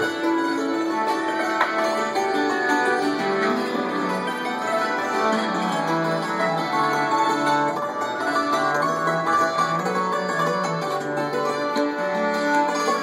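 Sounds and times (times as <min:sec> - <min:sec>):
hammered dulcimer notes: 0:00.0 - 0:13.0.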